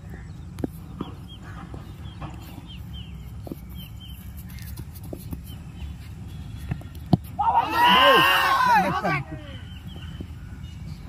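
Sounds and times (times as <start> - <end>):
bird chirping: 0.0 - 7.4, 9.0 - 11.0
steady low rumble: 0.0 - 7.6, 8.4 - 11.0.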